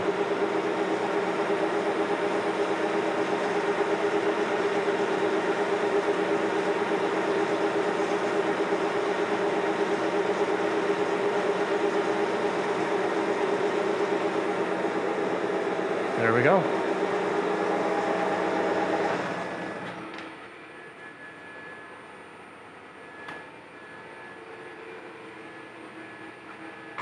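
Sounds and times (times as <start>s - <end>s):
lathe motor and gearing humming: 0.0s - 27.0s.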